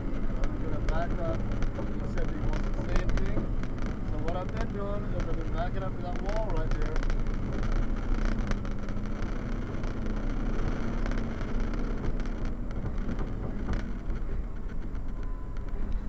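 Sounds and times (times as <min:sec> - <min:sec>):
diesel truck engine running: 0:00.0 - 0:16.0
knocks and rattles: 0:00.0 - 0:16.0.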